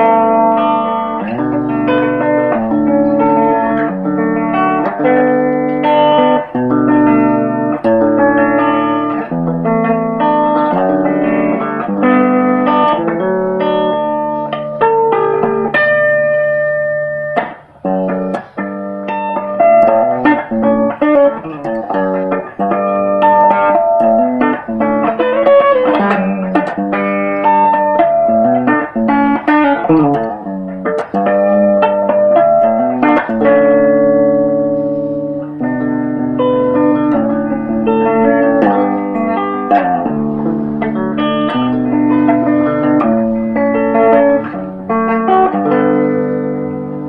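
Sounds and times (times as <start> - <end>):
plucked guitar melody: 0.0 - 47.0.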